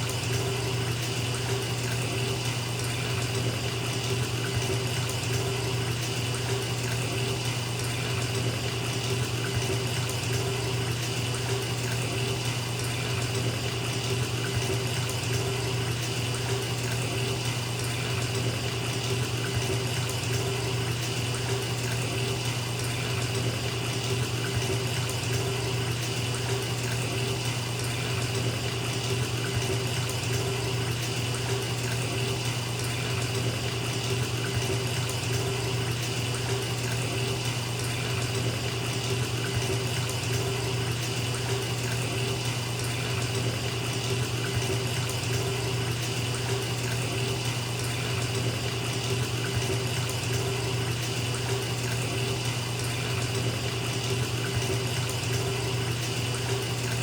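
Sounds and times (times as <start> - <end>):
tap water filling bathtub: 0.0 - 57.0.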